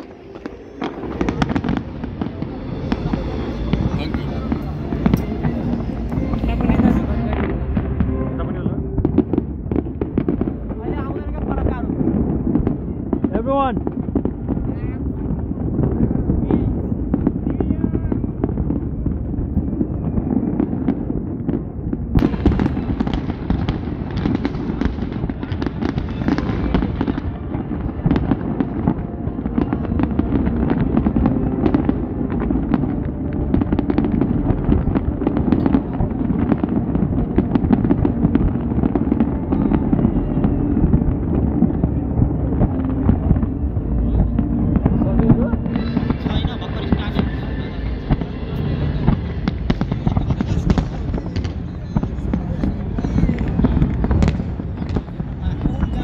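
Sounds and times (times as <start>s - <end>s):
fireworks bangs and crackles: 0.0s - 56.0s
low rumble: 0.0s - 56.0s.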